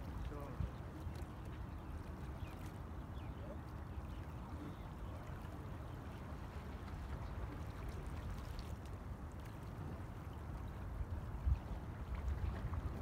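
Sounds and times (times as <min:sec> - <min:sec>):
small water splashes: 0:00.0 - 0:13.0.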